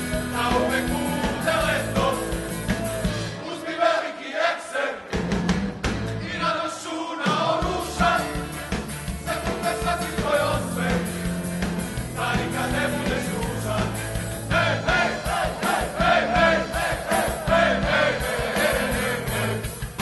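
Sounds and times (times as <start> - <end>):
amplified band with beat and bass: 0.0 - 3.4, 5.1 - 6.2, 7.6 - 20.0
group of men singing: 0.0 - 5.2, 6.2 - 20.0.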